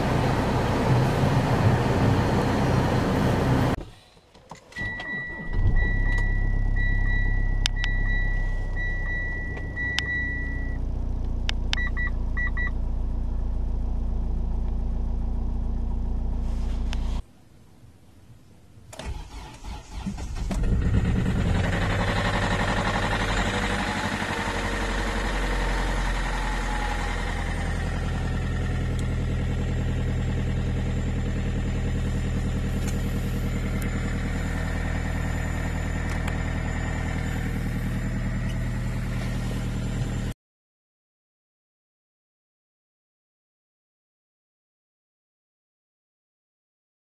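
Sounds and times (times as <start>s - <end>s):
diesel engine cranking and idling: 0.0s - 17.0s, 19.0s - 40.4s.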